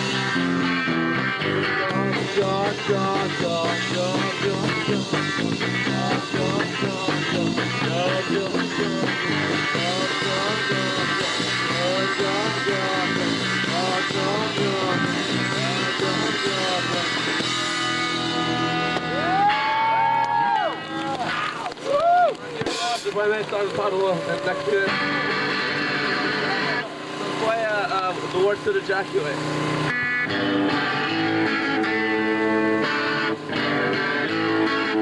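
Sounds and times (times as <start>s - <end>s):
electric guitar bending notes: 0.0s - 21.9s, 22.6s - 35.0s
live rock band playing: 0.0s - 35.0s.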